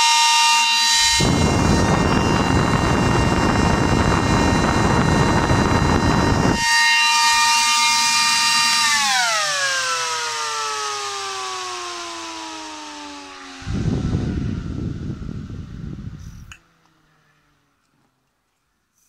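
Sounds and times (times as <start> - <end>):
fan high-pitched whine: 0.0 - 19.0
fan airflow rushing: 0.9 - 17.7.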